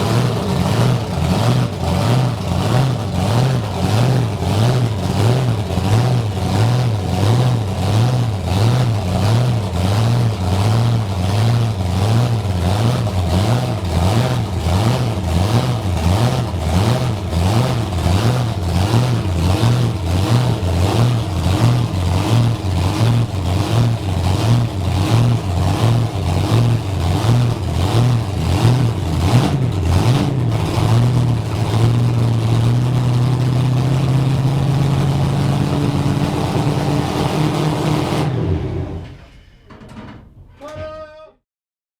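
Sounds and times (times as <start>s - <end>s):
truck engine idling with heavy lope: 0.0s - 39.7s.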